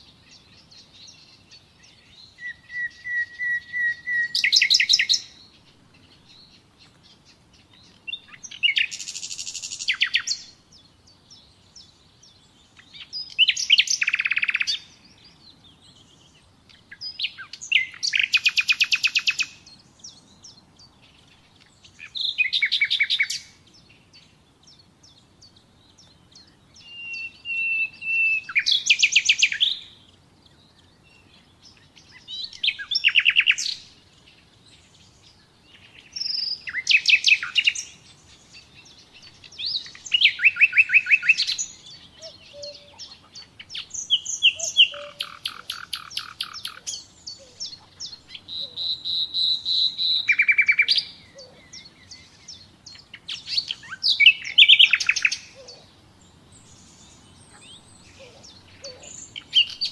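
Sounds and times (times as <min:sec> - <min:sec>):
nightingale singing trills: 0:00.0 - 0:59.9.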